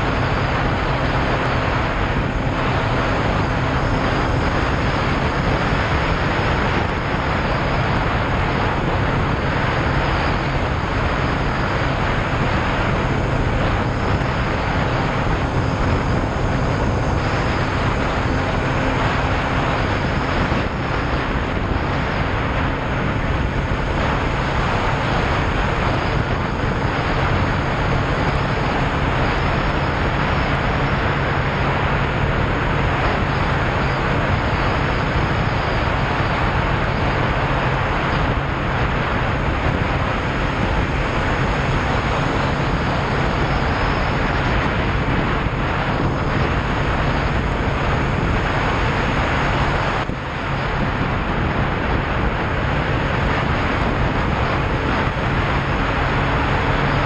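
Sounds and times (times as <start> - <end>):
motorcycle engine drone: 0.0 - 57.0
wind rushing over microphone: 0.0 - 57.0.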